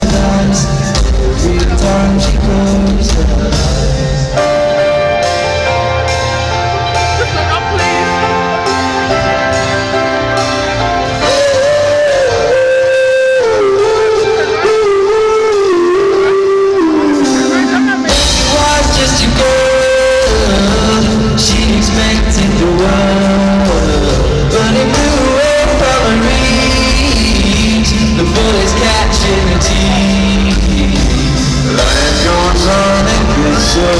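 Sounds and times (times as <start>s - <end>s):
person singing: 0.0s - 5.5s, 6.9s - 9.2s, 11.0s - 33.9s
bass: 0.0s - 33.9s
drums: 0.0s - 33.9s
held chords: 0.0s - 33.9s
pop band playing: 0.0s - 33.9s.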